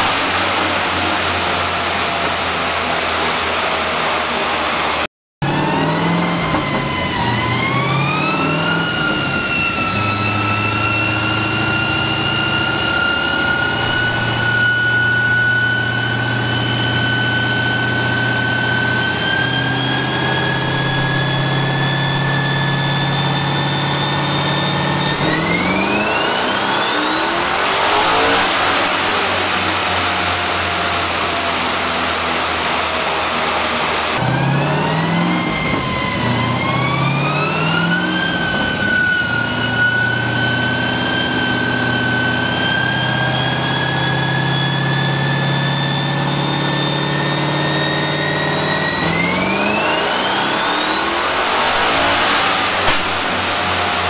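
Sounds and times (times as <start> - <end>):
car engine on dyno: 0.0 - 54.0
turbo whine rising in pitch: 0.0 - 54.0.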